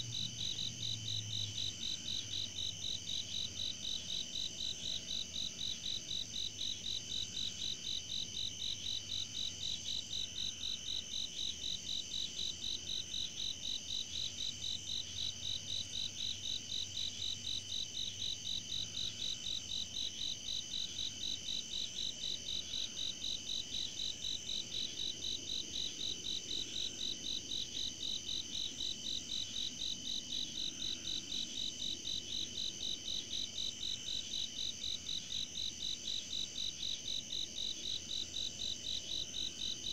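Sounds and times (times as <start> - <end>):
pulsing high cricket chirp: 0.0 - 39.9
steady high insect trill: 0.0 - 39.9.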